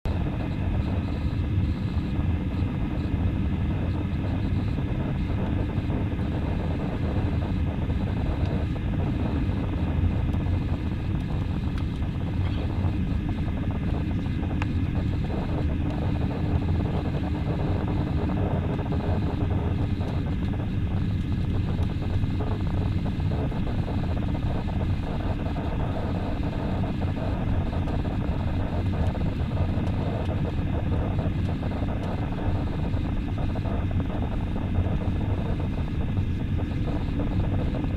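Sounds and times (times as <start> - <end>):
jet engines and rushing air: 0.0 - 37.9.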